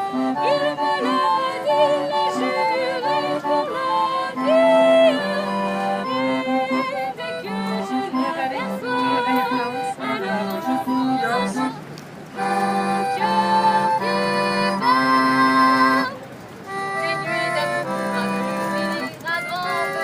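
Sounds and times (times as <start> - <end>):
sustained instrumental chords: 0.0 - 20.0
woman singing with vibrato: 0.1 - 16.2, 17.0 - 20.0.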